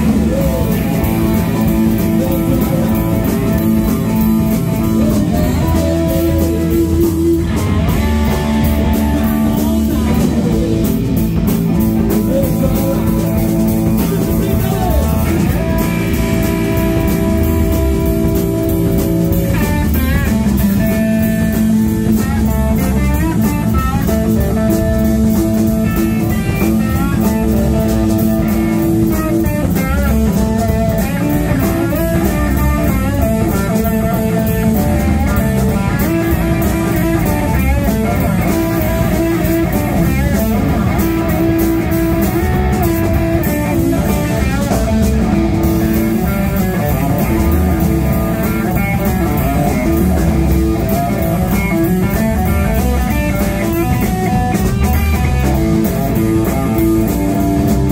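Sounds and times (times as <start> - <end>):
blues-rock band playing: 0.0 - 57.9
lead guitar bending pitch: 0.0 - 57.9.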